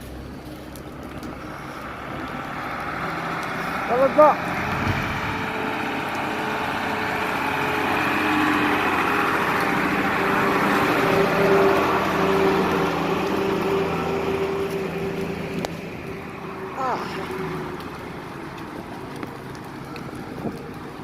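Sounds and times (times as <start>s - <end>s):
truck engine labouring: 0.0s - 21.0s
tyres spinning on wet ground: 0.0s - 21.0s.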